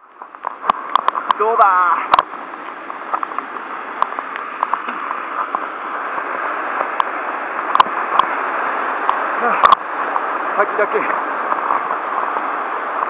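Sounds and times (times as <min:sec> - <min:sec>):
waterfall rushing: 0:00.5 - 0:13.0.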